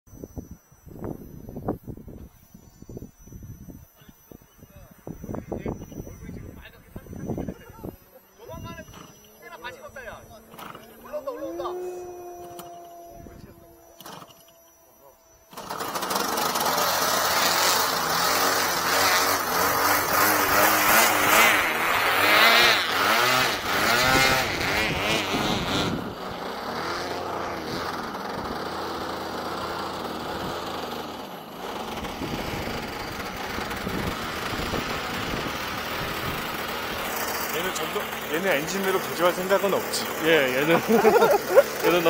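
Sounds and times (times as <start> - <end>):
model plane motor whine: 0.1 - 42.0.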